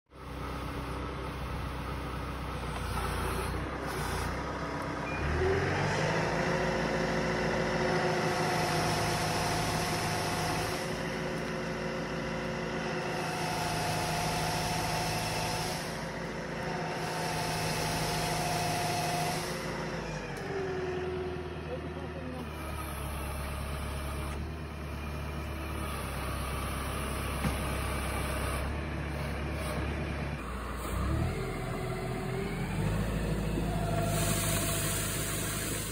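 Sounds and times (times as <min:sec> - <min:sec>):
tree shaker engine revving: 0:00.3 - 0:20.7, 0:21.4 - 0:35.9.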